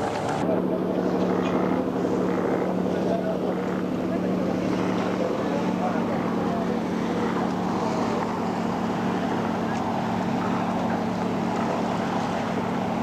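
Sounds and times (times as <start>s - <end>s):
boat engine droning: 0.0s - 13.0s
water noise: 0.0s - 13.0s.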